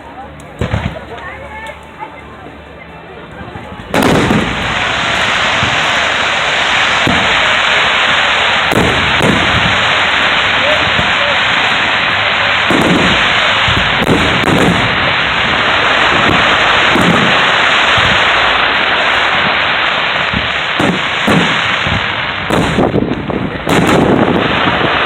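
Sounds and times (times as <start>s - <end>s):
fireworks crackling: 0.0s - 25.0s
fireworks deep booms: 0.6s - 1.4s, 3.4s - 25.0s.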